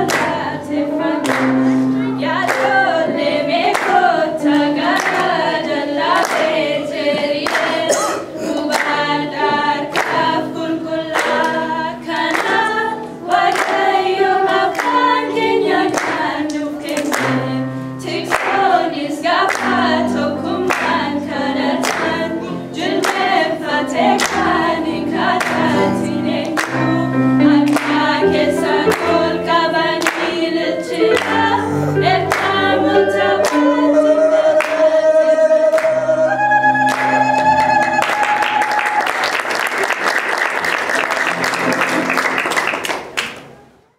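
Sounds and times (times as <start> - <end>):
girls singing together: 0.0 - 38.6.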